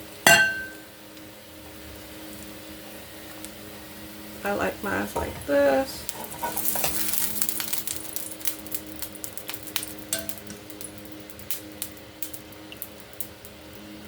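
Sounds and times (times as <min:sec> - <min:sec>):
tortillas sizzling in hot oil: 0:00.0 - 0:14.0.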